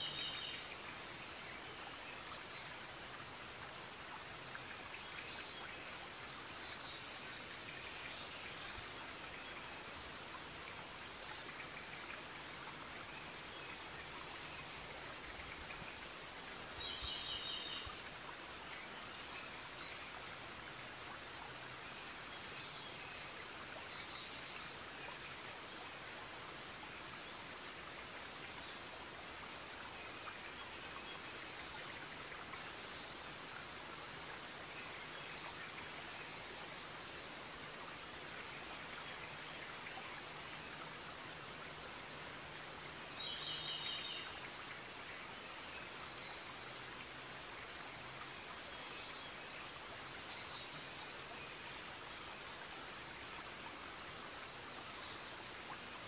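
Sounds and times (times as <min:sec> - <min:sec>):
steady watery hiss: 0:00.0 - 0:56.0.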